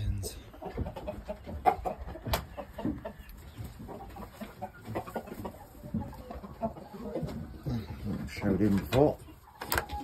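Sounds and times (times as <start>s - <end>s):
chicken clucking: 0.0s - 10.0s.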